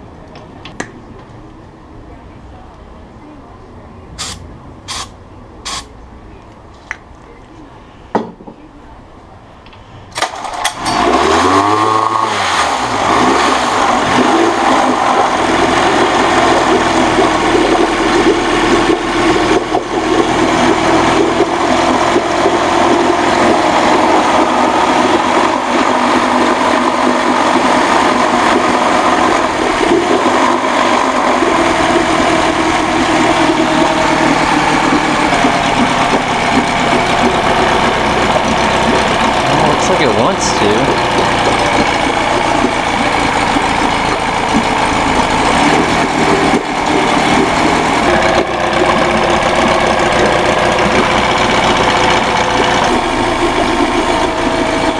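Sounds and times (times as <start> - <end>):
outboard motor starting and running: 10.1 - 54.9.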